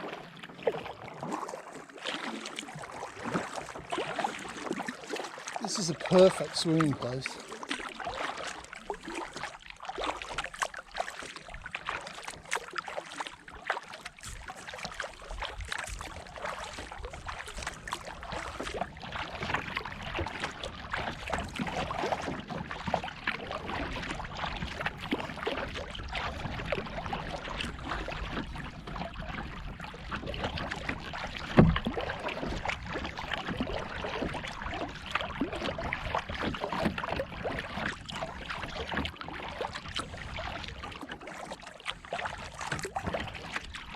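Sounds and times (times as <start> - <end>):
kayak paddle splashing water: 0.0 - 43.9.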